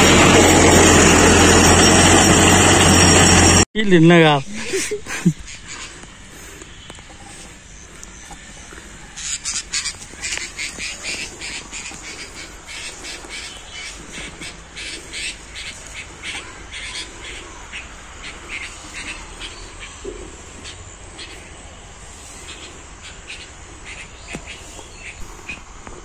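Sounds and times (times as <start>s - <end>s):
birds harsh calls: 4.5s - 26.0s.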